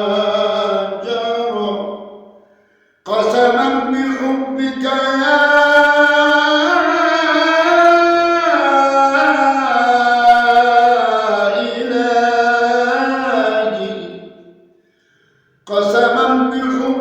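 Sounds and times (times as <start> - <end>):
man chanting: 0.0 - 2.3, 3.0 - 14.4, 15.7 - 17.0.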